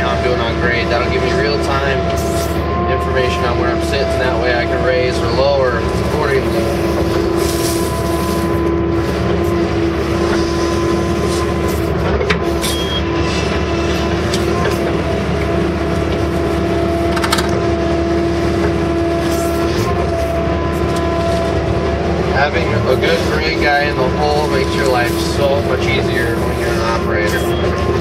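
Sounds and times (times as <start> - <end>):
constant whine: 0.0 - 28.0
excavator diesel engine running: 0.0 - 28.0.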